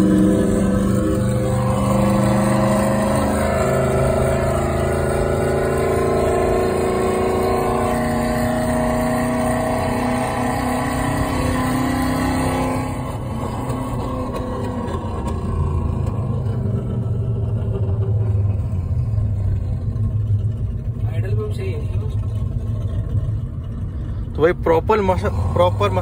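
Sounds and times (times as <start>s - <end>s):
synthetic car engine sound: 0.0s - 26.0s.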